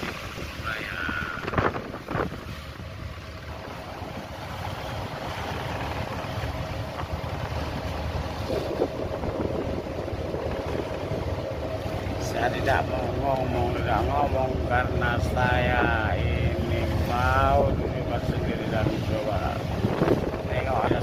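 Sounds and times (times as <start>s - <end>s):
boat engine running: 0.0s - 21.0s
sea wash: 0.0s - 21.0s
wind buffeting microphone: 0.0s - 21.0s.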